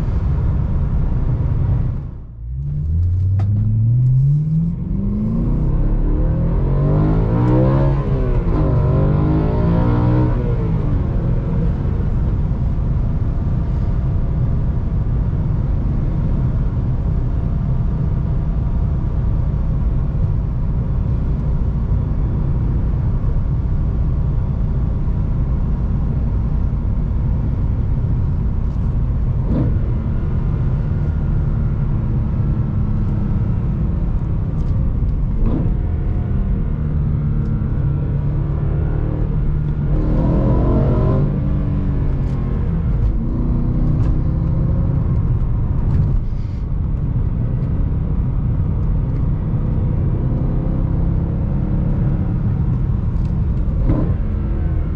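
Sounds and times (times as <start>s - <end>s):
car engine droning and accelerating: 0.0s - 54.9s.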